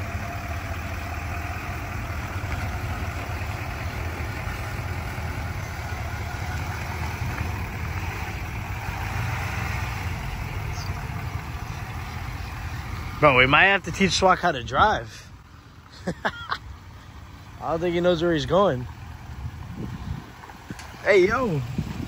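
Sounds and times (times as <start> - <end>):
truck engine running at low revs: 0.0 - 22.0.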